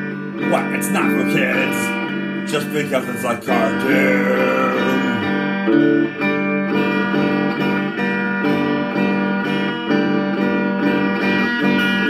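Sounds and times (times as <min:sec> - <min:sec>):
electric guitar strumming chords: 0:00.0 - 0:12.0.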